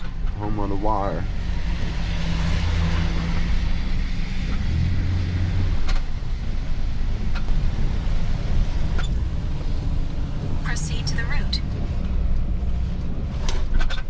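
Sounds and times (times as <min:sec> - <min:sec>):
truck engine hum: 0:00.0 - 0:14.0.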